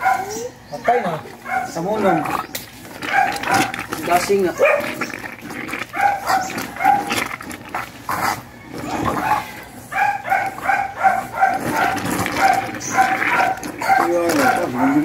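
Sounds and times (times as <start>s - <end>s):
animal yelping: 0.0s - 15.0s.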